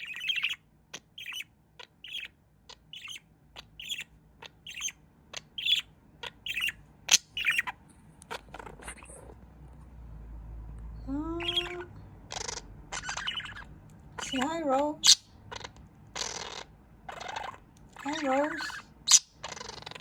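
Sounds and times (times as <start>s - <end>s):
budgerigar chirping: 0.0s - 9.3s, 11.4s - 20.0s.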